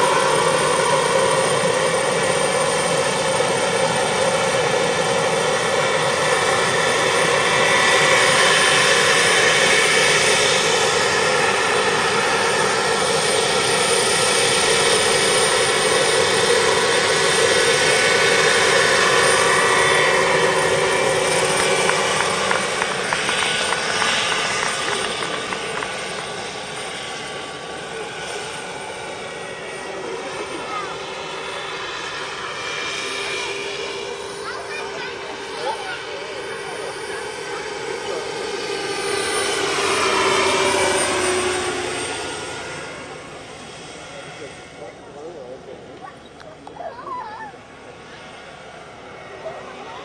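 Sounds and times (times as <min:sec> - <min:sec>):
model helicopter turbine whine: 0:00.0 - 0:50.0.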